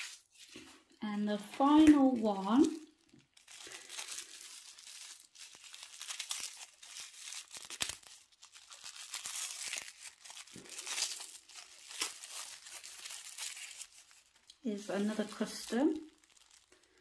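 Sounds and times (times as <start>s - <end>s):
crinkly packaging being torn open: 1.4s - 17.0s.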